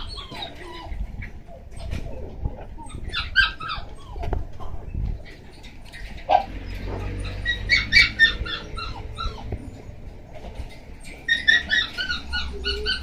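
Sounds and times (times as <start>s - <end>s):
puppy whining and yipping: 0.0s - 13.0s.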